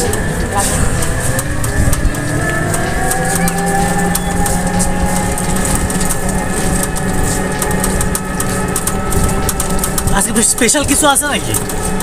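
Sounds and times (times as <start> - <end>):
road noise: 0.0 - 12.0
vehicle engine humming: 0.0 - 12.0
wind noise: 0.0 - 12.0.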